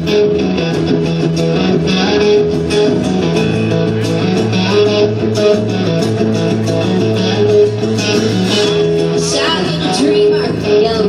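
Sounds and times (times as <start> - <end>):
bass line: 0.0 - 11.0
strummed guitar chords: 0.0 - 11.0.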